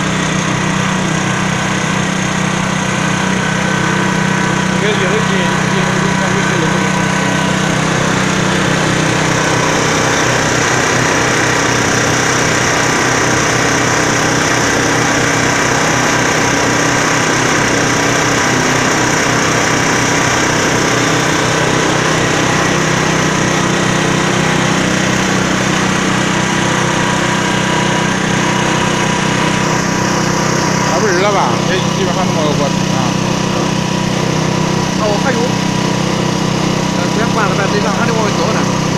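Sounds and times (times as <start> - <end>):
concrete mixer diesel engine running: 0.0 - 38.9.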